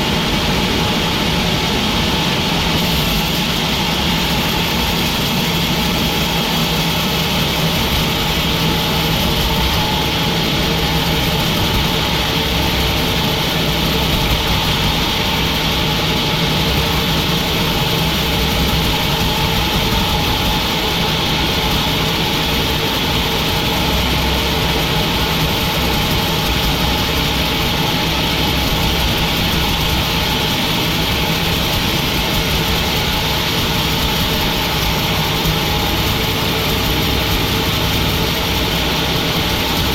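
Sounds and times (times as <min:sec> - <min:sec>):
high machine whine: 0:00.0 - 0:39.9
sawmill machinery drone: 0:00.0 - 0:39.9.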